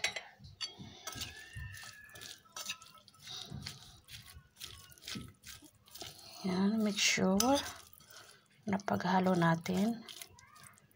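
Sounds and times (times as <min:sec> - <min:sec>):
spoon stirring wet food in bowl: 0:00.7 - 0:10.9.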